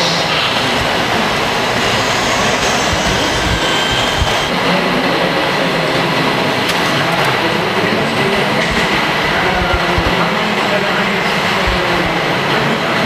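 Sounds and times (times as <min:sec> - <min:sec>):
faint steady whine: 0:00.0 - 0:13.0
model construction machines din: 0:00.0 - 0:13.0.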